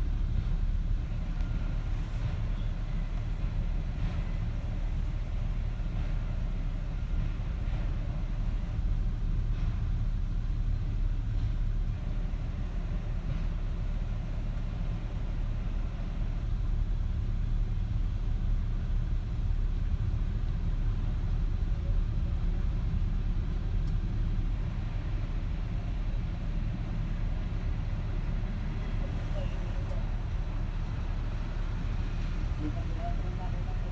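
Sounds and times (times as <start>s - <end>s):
freight train cars rumbling: 0.0s - 33.9s.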